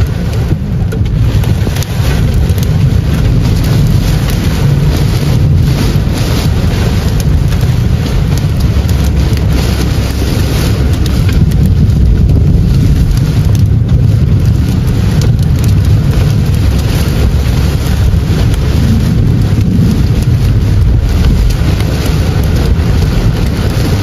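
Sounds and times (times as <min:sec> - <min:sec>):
car rumbling on wet road: 0:00.0 - 0:24.0
rain hitting windscreen: 0:00.0 - 0:24.0.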